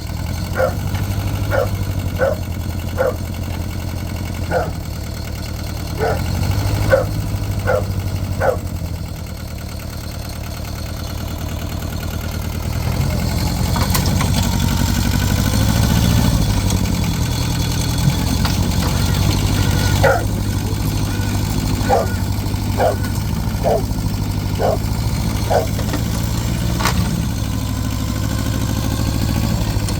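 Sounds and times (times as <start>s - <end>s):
vehicle engine idling: 0.0s - 29.9s.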